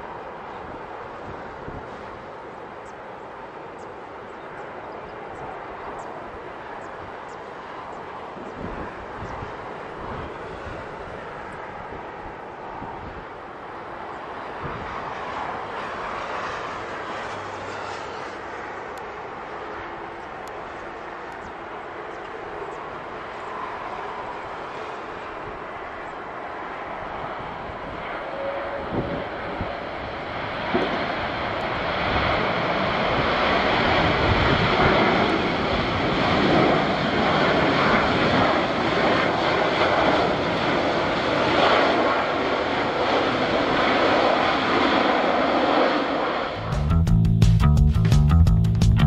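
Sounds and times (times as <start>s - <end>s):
jet engines roaring: 0.0s - 46.7s.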